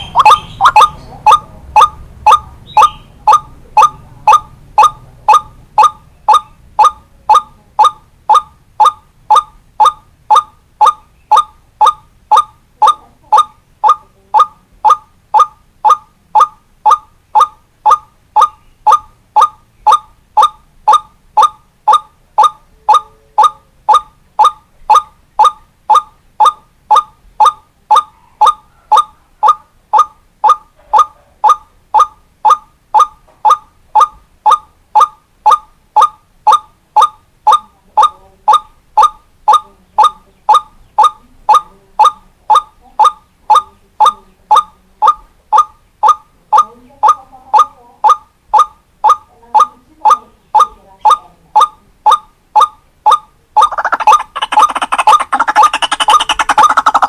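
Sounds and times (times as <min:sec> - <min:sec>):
waterhen call: 0:00.0 - 0:44.2, 0:52.6 - 0:57.0.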